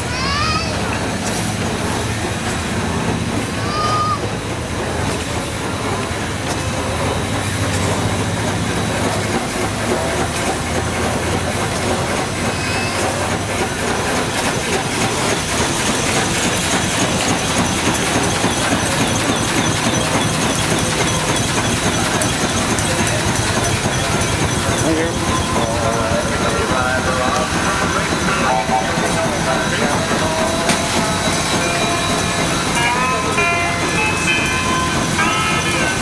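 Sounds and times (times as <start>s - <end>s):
steam engines clattering: 0.0s - 36.0s
steam noise: 0.0s - 36.0s.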